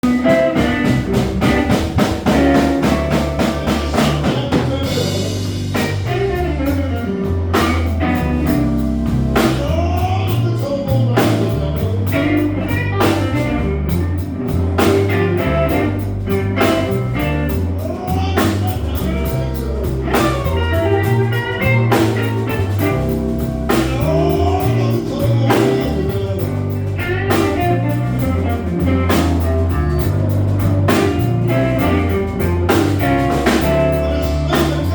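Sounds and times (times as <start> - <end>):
electric lead guitar bending notes: 0.0 - 34.9
live blues band: 0.0 - 34.9.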